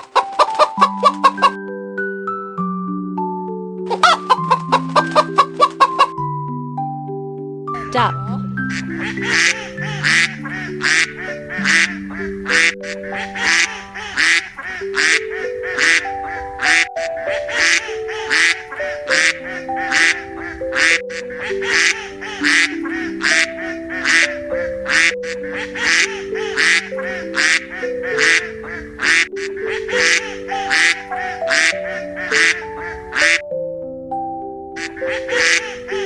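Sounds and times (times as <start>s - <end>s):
duck quacking: 0.0s - 1.6s, 3.9s - 6.2s, 8.7s - 33.4s, 34.8s - 36.0s
background music simple melody: 0.0s - 36.0s.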